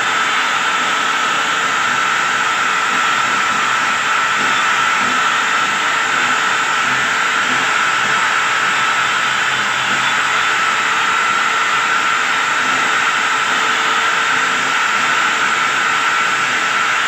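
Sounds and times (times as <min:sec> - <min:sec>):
electric drill motor whine: 0:00.0 - 0:17.0.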